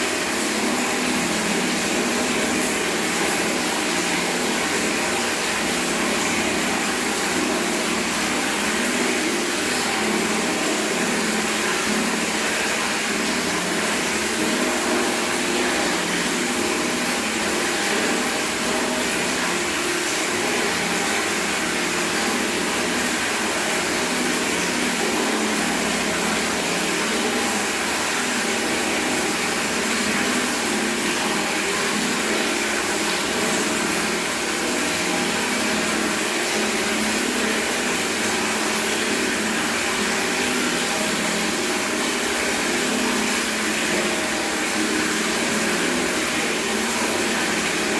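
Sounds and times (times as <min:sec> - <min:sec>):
tap water pouring into bucket: 0:00.0 - 0:47.9.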